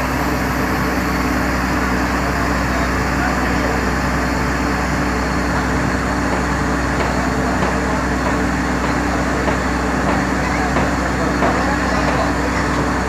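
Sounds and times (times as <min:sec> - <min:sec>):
drilling rig droning: 0:00.0 - 0:13.0.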